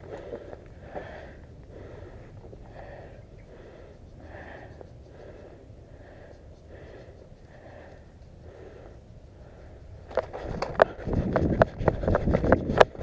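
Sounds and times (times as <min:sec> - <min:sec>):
person breathing hard: 0:00.0 - 0:11.8.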